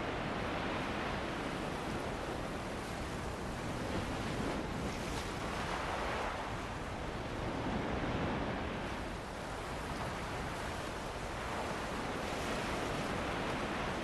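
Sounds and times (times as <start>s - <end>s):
ocean waves washing on shore: 0.0s - 14.0s
wind: 0.0s - 14.0s.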